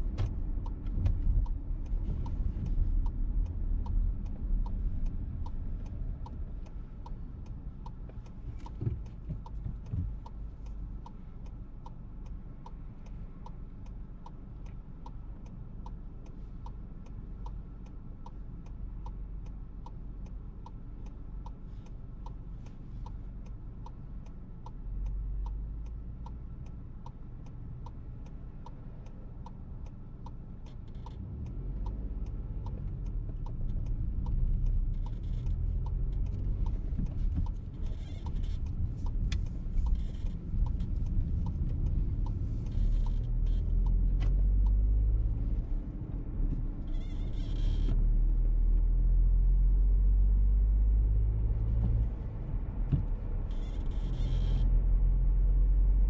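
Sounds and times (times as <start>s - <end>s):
engine and road rumble: 0.0s - 56.0s
turn signal ticking: 0.0s - 56.0s.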